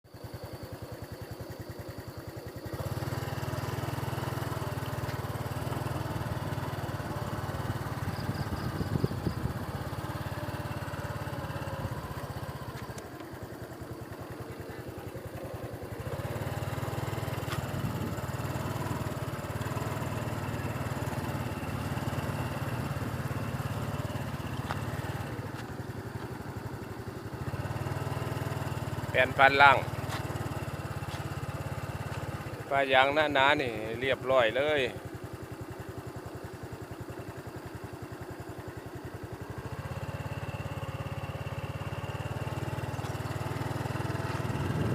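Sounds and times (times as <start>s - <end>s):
small engine running: 0.1s - 44.9s.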